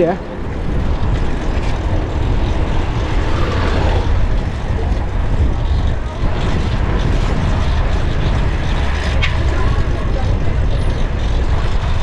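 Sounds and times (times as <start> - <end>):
deep low rumble: 0.0 - 12.0
road noise: 0.0 - 12.0
wind on microphone: 0.0 - 12.0.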